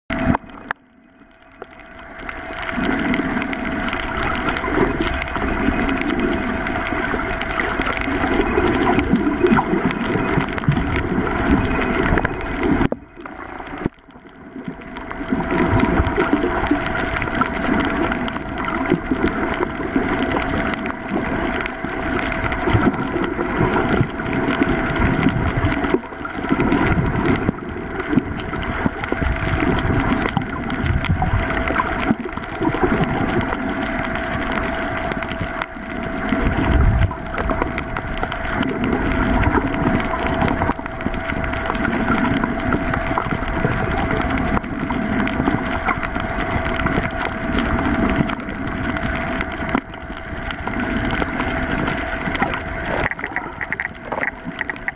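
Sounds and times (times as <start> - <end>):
muffled underwater water rush: 0.1 - 54.9
steady high-pitched hum: 0.1 - 54.9.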